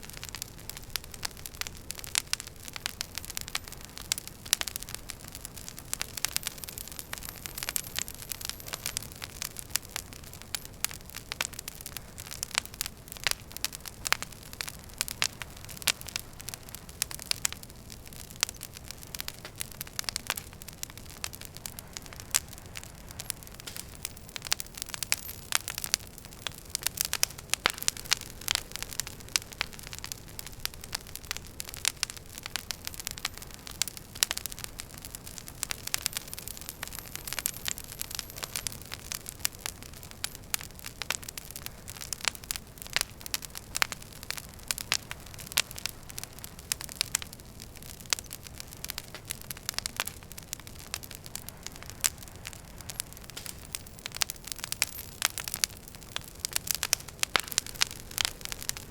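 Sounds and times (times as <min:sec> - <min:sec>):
fire crackling and popping: 0:00.0 - 0:58.9
low rumble of burning logs: 0:00.0 - 0:58.9.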